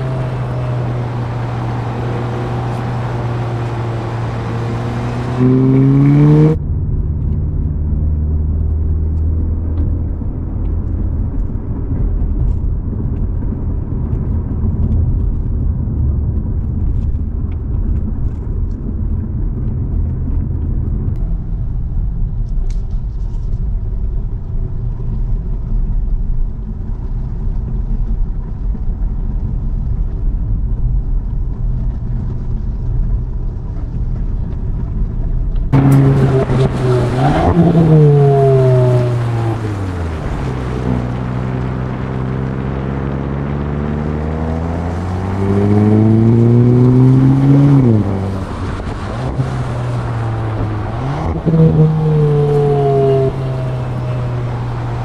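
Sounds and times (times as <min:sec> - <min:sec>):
car engine accelerating: 0:00.0 - 0:28.8, 0:29.4 - 0:55.0.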